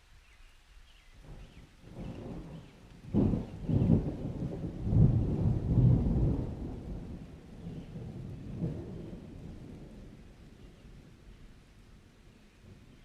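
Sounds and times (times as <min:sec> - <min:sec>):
thunder rumbling: 0:01.2 - 0:13.0.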